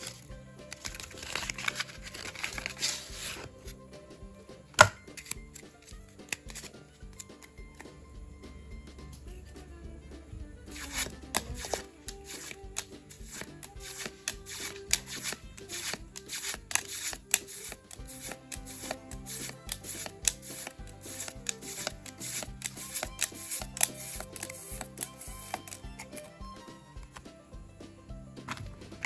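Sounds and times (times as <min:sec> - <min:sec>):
trading cards clicking and rustling: 0:00.0 - 0:03.8, 0:04.8 - 0:08.0, 0:10.7 - 0:27.3, 0:28.4 - 0:29.0
background music: 0:00.0 - 0:29.0.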